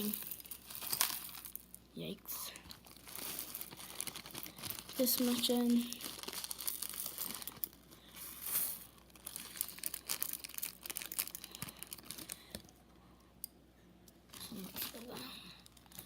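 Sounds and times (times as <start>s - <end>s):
plastic bag crinkling: 0.0s - 12.7s, 14.3s - 16.0s.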